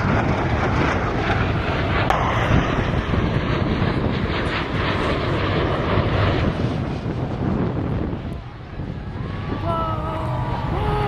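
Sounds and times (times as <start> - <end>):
airplane engine roar: 0.0 - 11.0.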